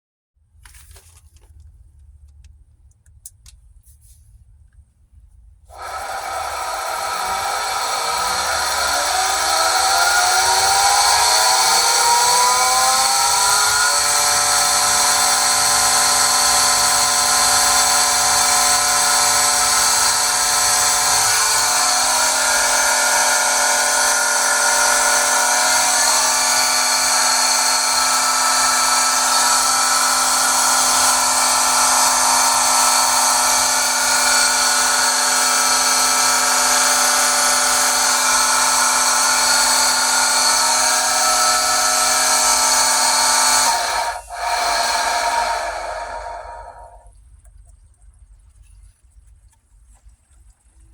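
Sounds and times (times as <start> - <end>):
pool pump screeching whine: 5.7 - 47.1.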